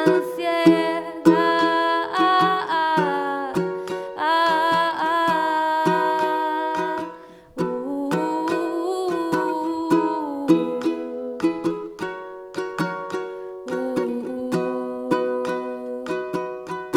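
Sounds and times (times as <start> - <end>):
person singing: 0.0 - 16.9.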